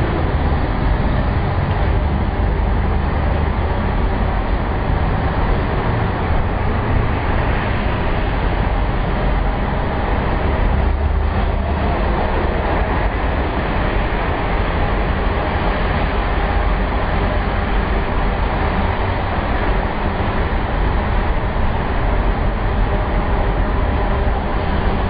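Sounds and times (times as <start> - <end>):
traffic rumble in a tunnel: 0.0 - 25.0.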